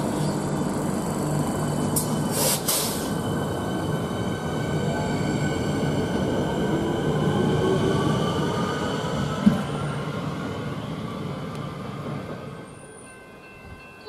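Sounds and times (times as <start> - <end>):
train wheels rumbling on rail: 0.0 - 13.0
electric train whine: 0.0 - 13.9.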